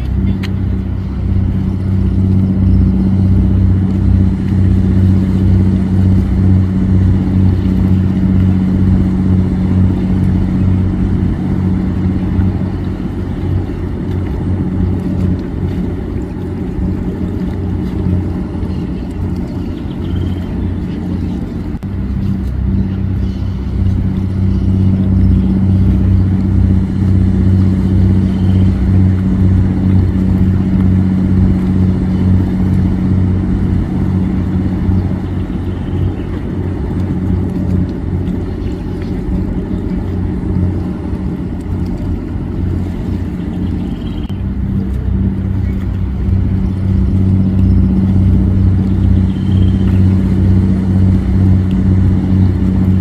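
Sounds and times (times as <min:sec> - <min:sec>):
motorboat engine droning: 0:00.0 - 0:53.0.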